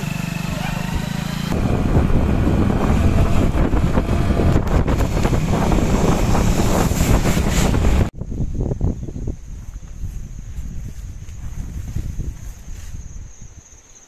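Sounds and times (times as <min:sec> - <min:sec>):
wind buffeting microphone: 0:00.9 - 0:13.7.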